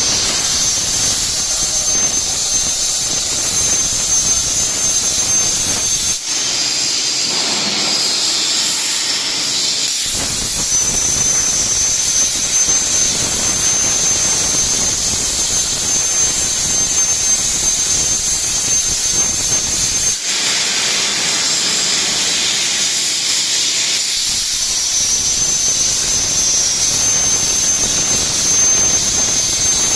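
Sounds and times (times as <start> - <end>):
thin high whistle: 0.0 - 9.0, 9.9 - 20.4, 24.1 - 29.9
plasma torch hissing: 0.0 - 21.6, 24.0 - 29.9.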